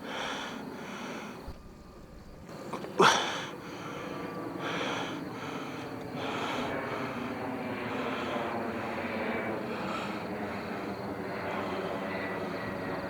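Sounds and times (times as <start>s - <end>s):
distant jet engines rushing: 0.0s - 13.0s.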